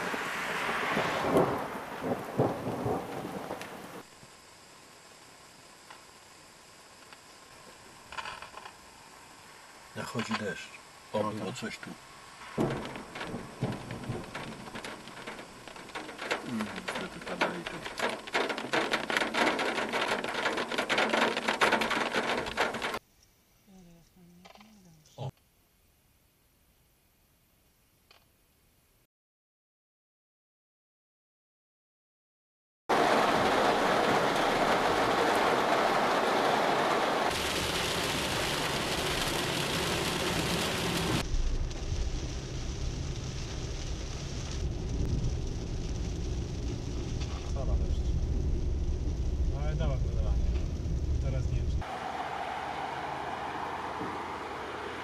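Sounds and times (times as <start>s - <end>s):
rain on car roof: 0.0s - 23.0s, 32.9s - 55.0s.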